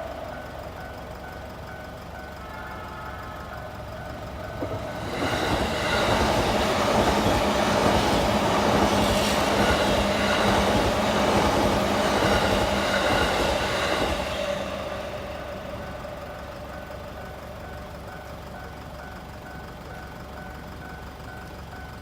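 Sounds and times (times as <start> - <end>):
crossing warning bell: 0.0 - 22.0
electric train passing: 0.0 - 22.0.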